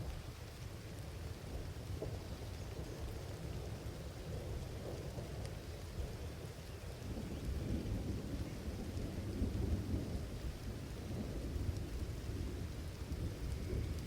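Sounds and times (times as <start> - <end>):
low rumble of thunder: 0.0 - 14.0
steady rain falling: 0.0 - 14.0.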